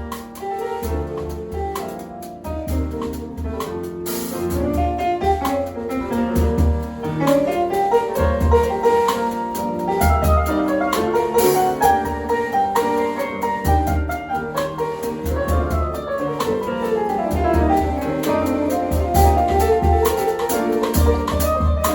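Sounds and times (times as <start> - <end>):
drum kit: 0.0 - 21.9
jazz band playing: 0.0 - 21.9
piano chords: 0.0 - 21.9.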